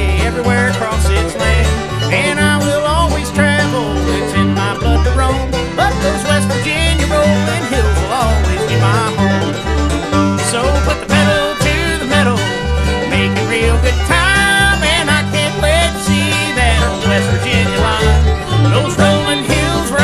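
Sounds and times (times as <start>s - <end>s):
bending lead line: 0.0s - 20.0s
bluegrass banjo and guitar music: 0.0s - 20.0s
steady bass beat: 0.0s - 20.0s.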